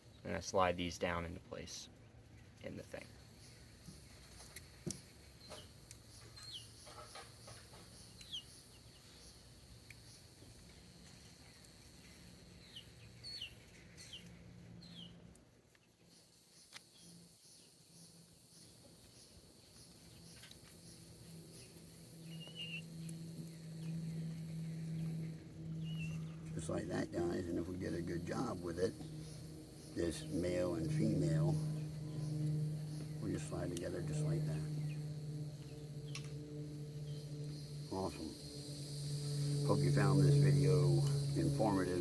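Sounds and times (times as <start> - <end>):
birds chirping: 0.0 - 15.2, 15.8 - 42.0.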